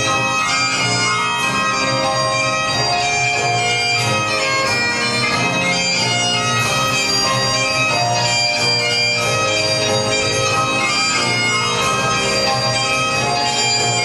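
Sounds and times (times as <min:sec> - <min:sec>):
bagpipe music: 0:00.0 - 0:14.0.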